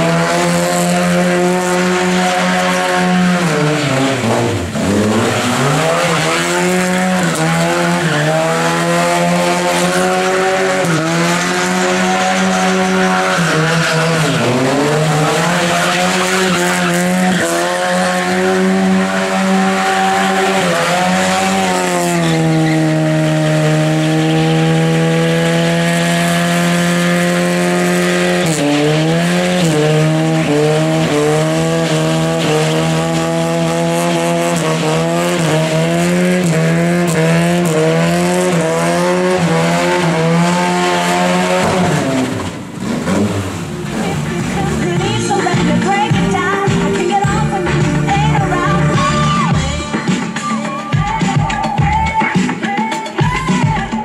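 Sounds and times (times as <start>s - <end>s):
car engine at high revs: 0.0s - 54.0s
tyres squealing: 1.0s - 54.0s.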